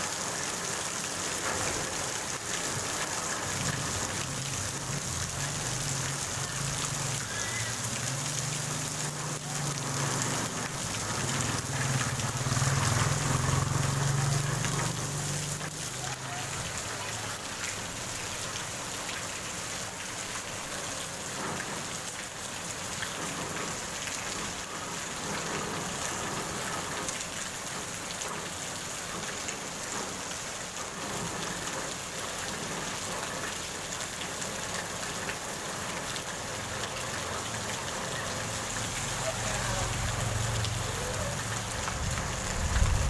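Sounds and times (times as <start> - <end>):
heavy rain on wet street: 0.0 - 43.0.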